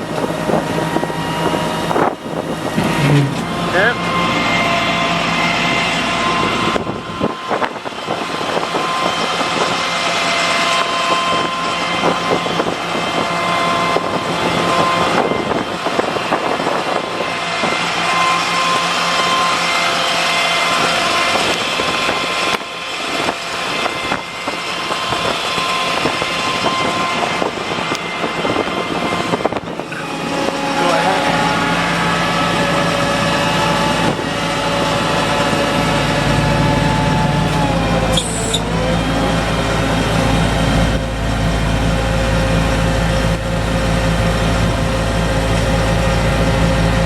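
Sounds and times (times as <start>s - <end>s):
diesel engine at high idle: 0.0s - 47.0s
hydraulic pump whine: 0.0s - 47.0s.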